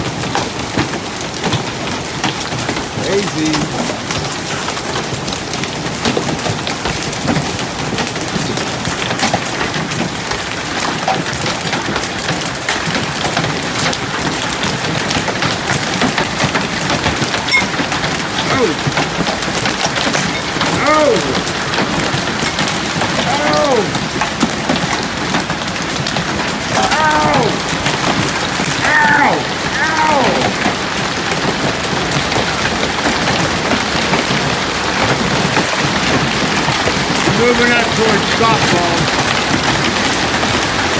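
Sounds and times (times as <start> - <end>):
hailstones clattering: 0.0 - 40.9
rain: 0.0 - 40.9.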